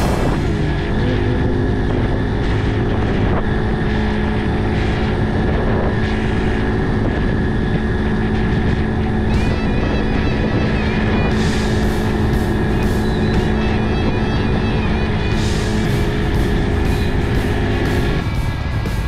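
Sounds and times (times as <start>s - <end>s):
motorcycle engine droning: 0.0s - 19.0s
rush of low noise: 0.0s - 19.0s.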